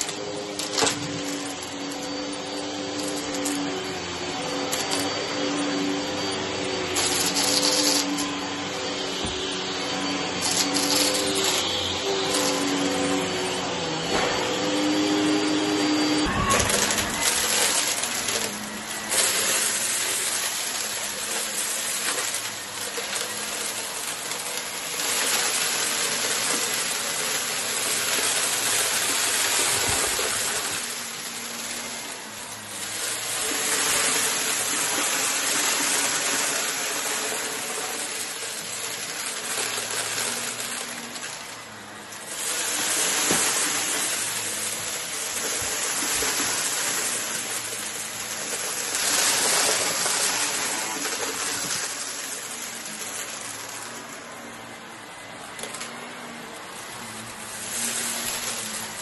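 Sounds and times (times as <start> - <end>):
vacuum cleaner on carpet: 0.0 - 59.0.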